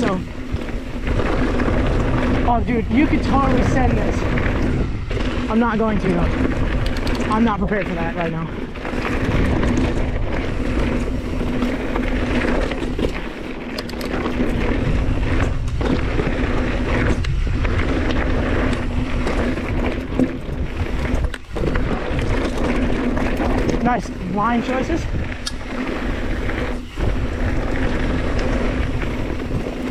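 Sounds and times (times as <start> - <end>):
bike tyres humming and rattling: 0.0 - 29.9
wind buffeting microphone: 0.0 - 29.9.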